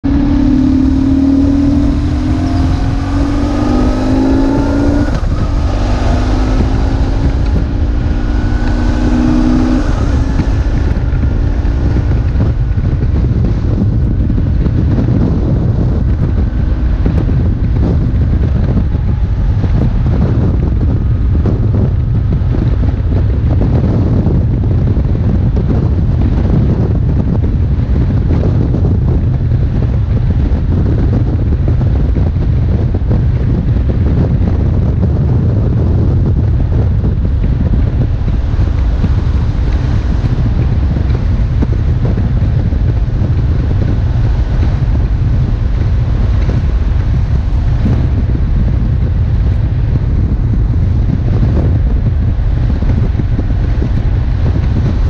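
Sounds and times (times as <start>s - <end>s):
motorcycle engine riding: 0.0s - 55.0s
wind rumble on microphone: 0.0s - 55.0s.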